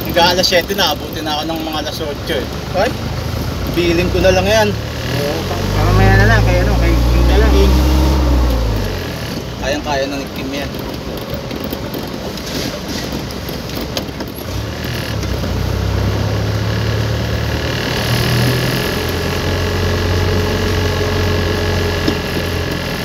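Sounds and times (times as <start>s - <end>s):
truck engine hum: 0.0s - 23.0s.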